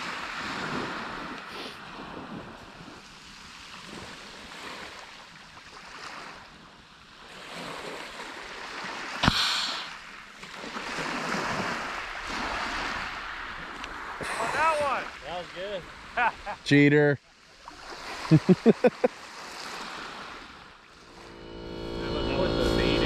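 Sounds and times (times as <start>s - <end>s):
surf washing on shore: 0.0s - 16.8s, 17.4s - 23.0s.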